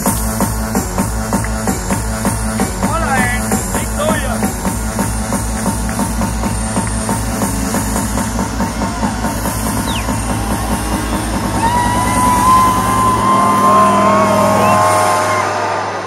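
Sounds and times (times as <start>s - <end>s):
heavy bass beat: 0.0s - 16.0s
rave music through sound system: 0.0s - 16.0s.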